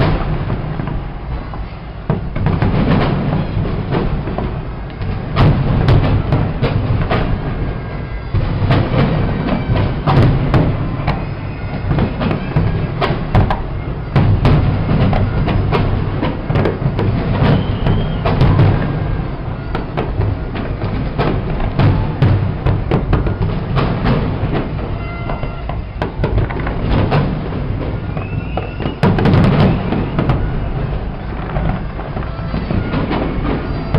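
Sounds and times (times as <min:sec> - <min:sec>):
fireworks bangs and cracks: 0:00.0 - 0:33.9.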